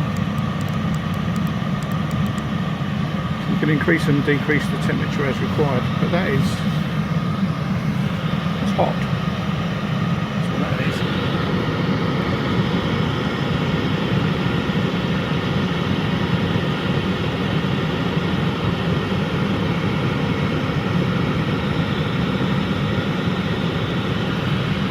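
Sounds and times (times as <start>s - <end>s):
diesel heater running: 0.0s - 24.9s.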